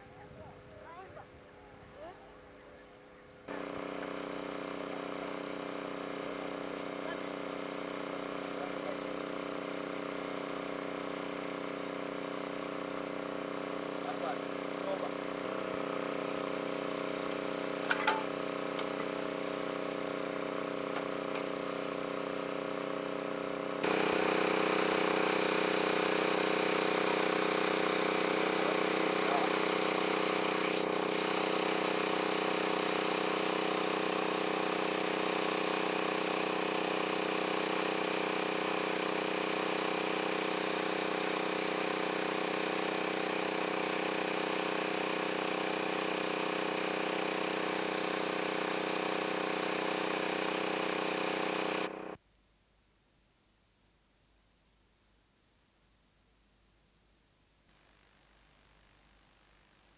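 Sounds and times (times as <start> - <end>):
steady machine hum: 0.0 - 53.1.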